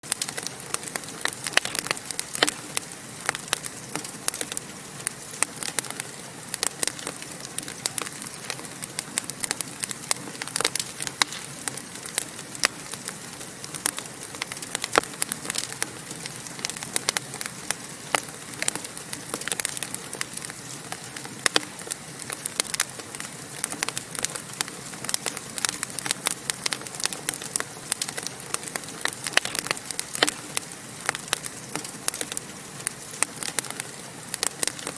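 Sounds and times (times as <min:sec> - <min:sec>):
fire crackling and popping: 0:00.0 - 0:34.9
fire hissing: 0:00.0 - 0:34.9.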